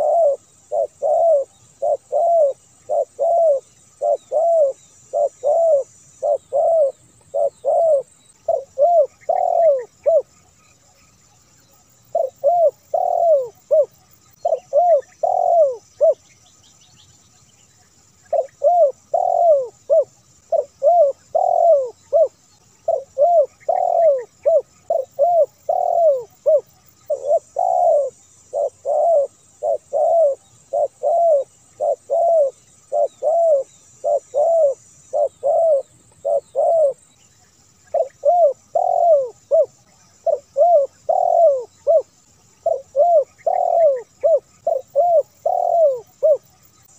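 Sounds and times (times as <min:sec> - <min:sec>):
dove cooing: 0:00.0 - 0:10.6, 0:11.8 - 0:16.3, 0:18.3 - 0:37.0, 0:37.9 - 0:46.7.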